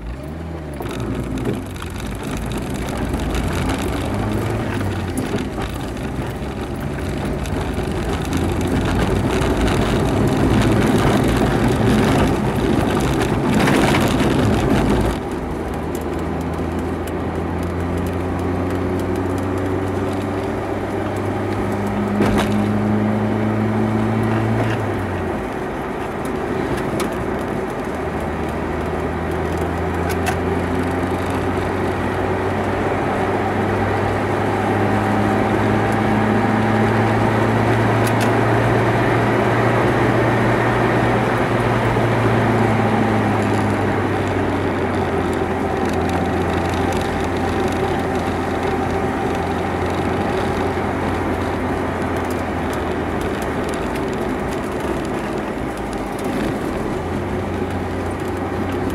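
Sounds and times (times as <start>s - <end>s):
car engine under load: 0.0s - 58.9s
tyre and road rumble: 0.0s - 58.9s.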